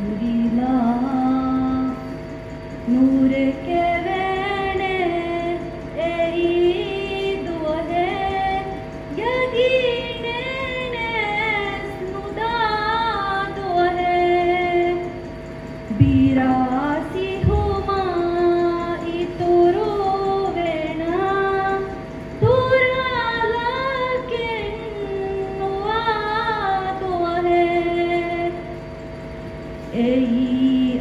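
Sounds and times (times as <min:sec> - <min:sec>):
woman singing into a microphone: 0:00.0 - 0:02.2, 0:02.8 - 0:15.2, 0:15.9 - 0:28.7, 0:29.9 - 0:31.0.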